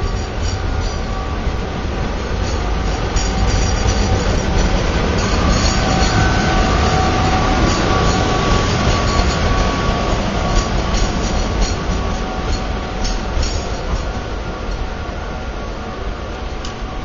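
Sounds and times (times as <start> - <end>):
electric locomotive rumble: 0.0 - 17.0
high-pitched whine: 0.0 - 17.0.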